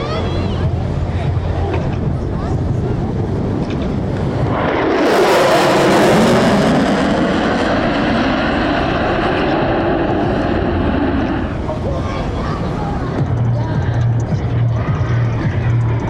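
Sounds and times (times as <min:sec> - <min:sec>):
jet aircraft flyby: 0:00.0 - 0:16.0.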